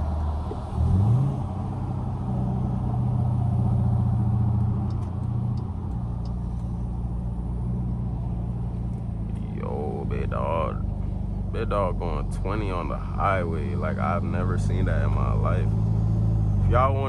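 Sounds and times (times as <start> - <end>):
car exhaust revving and droning: 0.0 - 17.0.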